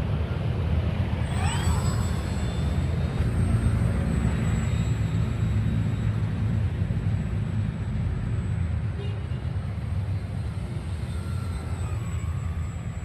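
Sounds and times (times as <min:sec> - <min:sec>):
model airplane motor whine: 0:01.2 - 0:08.7, 0:09.7 - 0:13.0.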